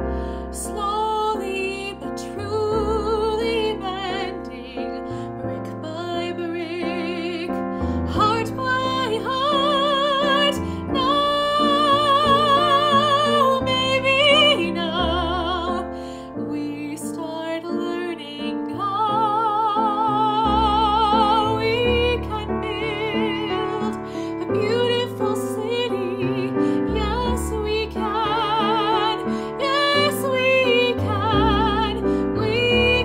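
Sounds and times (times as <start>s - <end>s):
piano accompaniment: 0.0s - 33.0s
woman singing operatically: 0.5s - 33.0s.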